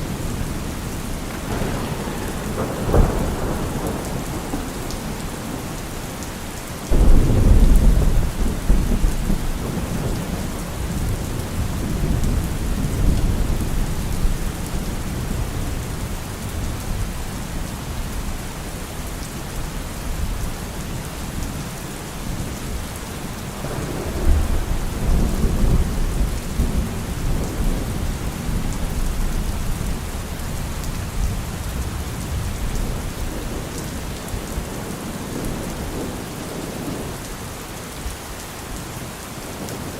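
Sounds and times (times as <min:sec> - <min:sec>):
thunder rumbling: 0:00.0 - 0:17.2, 0:22.3 - 0:38.8
steady rain: 0:00.0 - 0:39.9.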